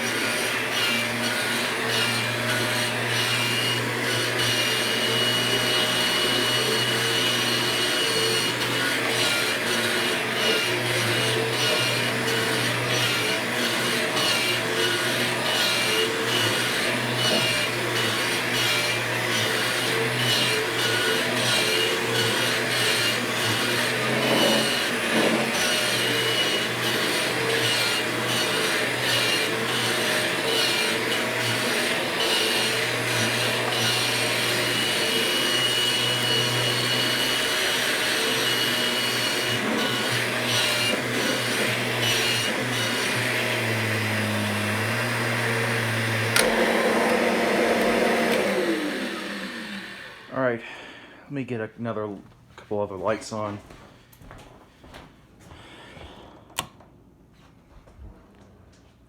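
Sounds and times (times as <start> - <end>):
vacuum cleaner motor running: 0.0 - 50.4.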